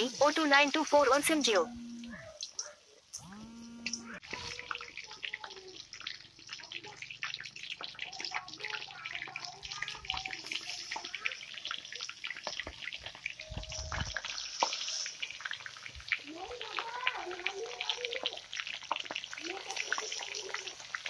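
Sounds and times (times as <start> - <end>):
hot oil sizzling and crackling: 0.0 - 21.0.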